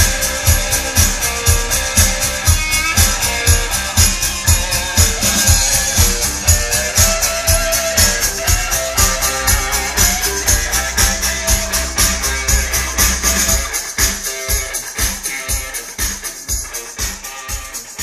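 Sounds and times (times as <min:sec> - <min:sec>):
recorded music with drum beat: 0:00.0 - 0:18.0.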